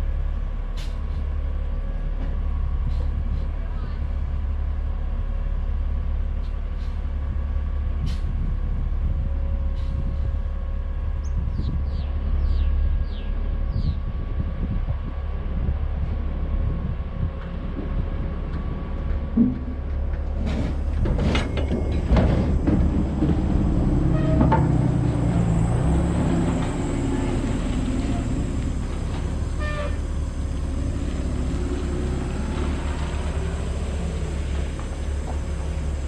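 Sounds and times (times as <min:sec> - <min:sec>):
diesel truck engine rumbling: 0:00.0 - 0:36.0.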